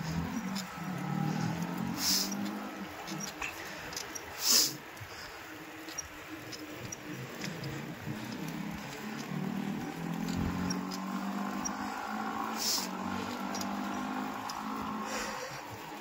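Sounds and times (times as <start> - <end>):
bicycle tyre and air noise: 0.0 - 16.0
faint clicks: 0.0 - 16.0.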